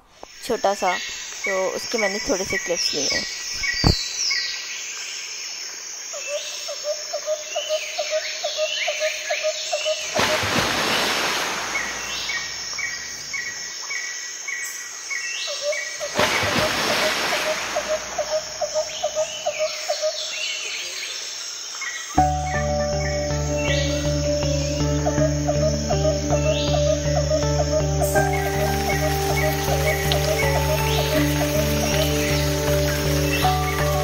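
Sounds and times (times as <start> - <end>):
birds calling: 0.0 - 4.7, 6.2 - 34.0
insects chirping: 0.0 - 34.0.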